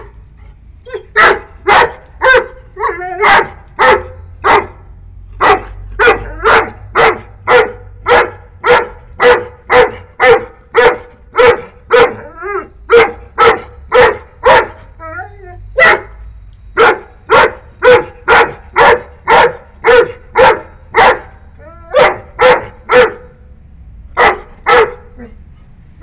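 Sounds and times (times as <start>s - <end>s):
puppy barking: 0.9s - 4.8s, 5.4s - 12.3s, 12.9s - 15.0s, 15.8s - 16.2s, 16.8s - 23.4s, 24.2s - 25.3s.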